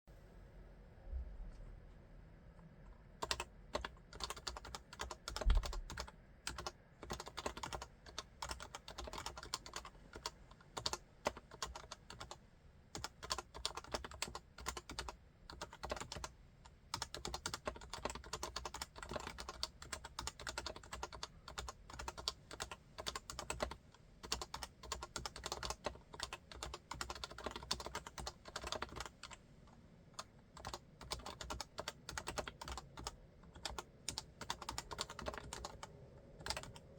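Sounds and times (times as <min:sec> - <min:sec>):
keyboard typing: 0:03.2 - 0:16.3, 0:16.9 - 0:29.4, 0:30.2 - 0:36.9.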